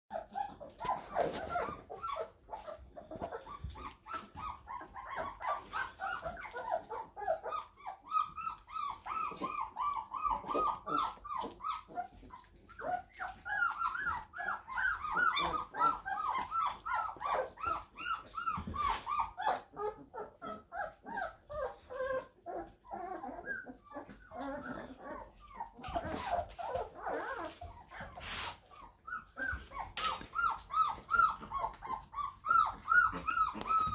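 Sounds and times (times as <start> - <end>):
puppies squeaking and whimpering: 0.1 - 33.9.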